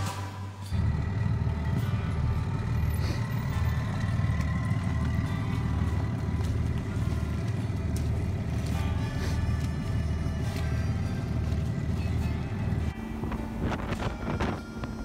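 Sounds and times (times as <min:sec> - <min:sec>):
boat engine rumbling: 0:00.7 - 0:15.0.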